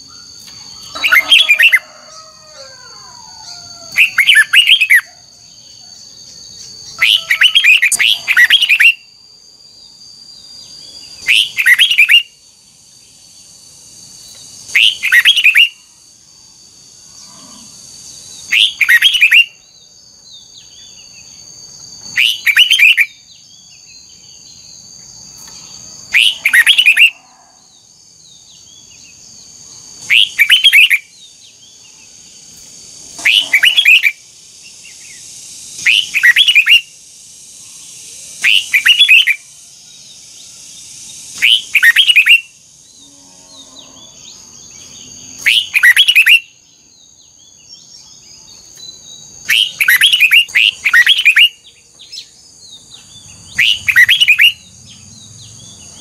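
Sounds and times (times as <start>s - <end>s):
bird singing: 0.0s - 56.0s
high-pitched insect tone: 0.0s - 56.0s.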